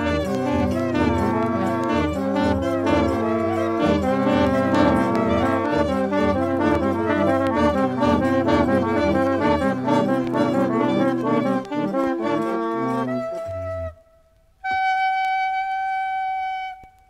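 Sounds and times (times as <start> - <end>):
horn ensemble playing: 0.0 - 14.0
deep low horn notes: 0.0 - 16.9.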